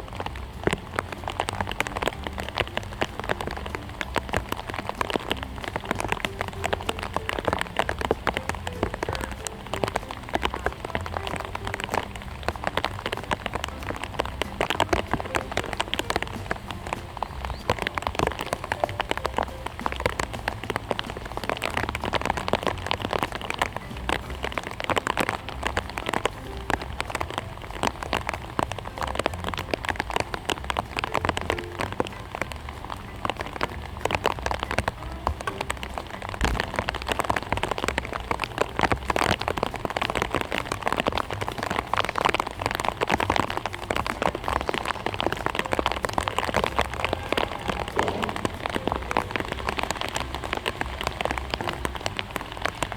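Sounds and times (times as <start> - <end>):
rain pattering on a surface: 0.0 - 52.9.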